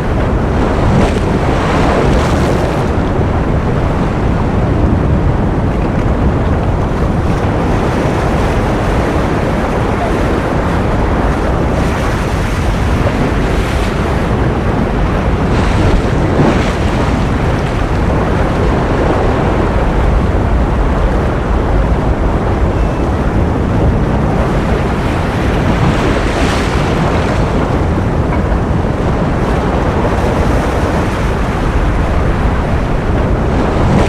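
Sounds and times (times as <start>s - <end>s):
ocean surf rushing: 0.0s - 34.0s.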